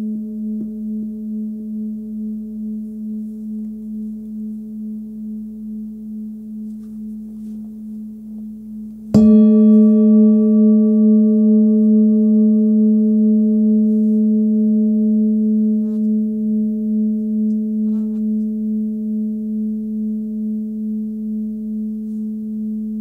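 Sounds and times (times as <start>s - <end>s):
singing bowl ringing: 0.0s - 23.0s.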